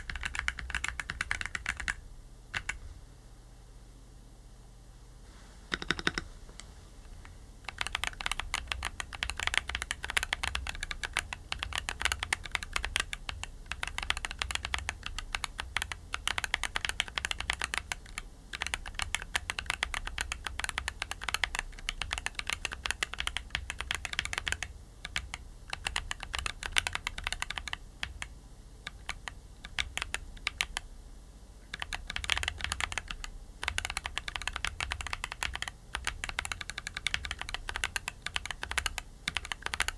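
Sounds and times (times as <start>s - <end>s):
mechanical keyboard typing: 0.0s - 2.8s, 5.7s - 6.3s, 7.6s - 30.8s, 31.7s - 39.9s.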